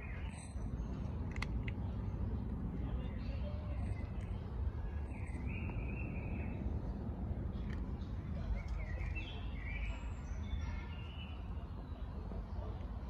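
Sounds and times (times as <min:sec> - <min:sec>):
small birds chirping: 0:00.0 - 0:12.8
low outdoor rumble: 0:00.0 - 0:13.0.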